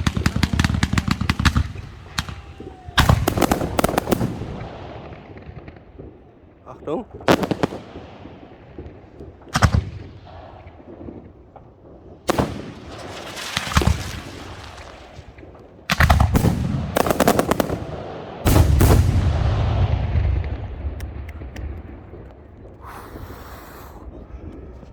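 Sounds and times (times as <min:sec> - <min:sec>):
echoing rumble: 0:00.0 - 0:13.3, 0:16.2 - 0:24.9
fireworks bangs: 0:00.0 - 0:24.9
rapid fireworks volleys: 0:00.0 - 0:24.9.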